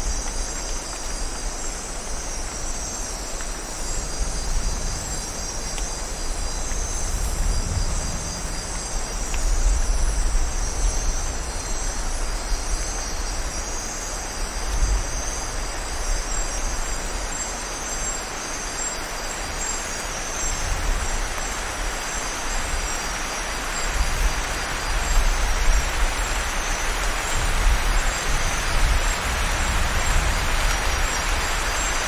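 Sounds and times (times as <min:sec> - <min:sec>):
night insects chorus: 0:00.0 - 0:32.0
steady rain: 0:00.0 - 0:32.0.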